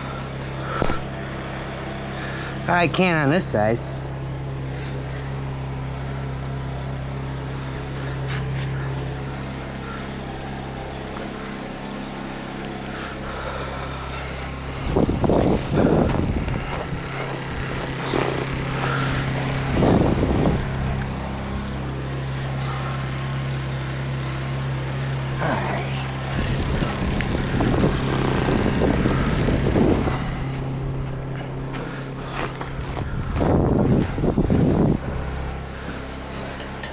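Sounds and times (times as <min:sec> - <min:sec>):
generator engine hum: 0:00.0 - 0:36.9.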